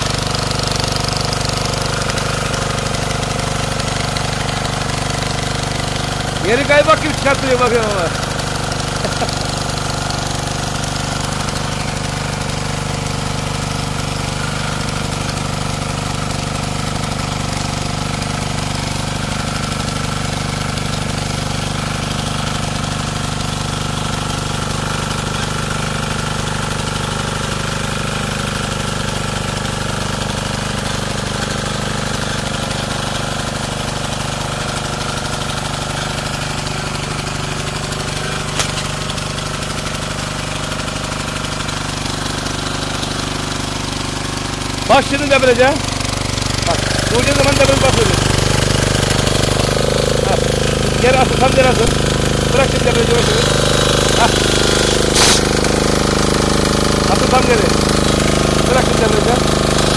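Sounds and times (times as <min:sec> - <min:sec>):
diesel tiller running: 0:00.0 - 0:59.9.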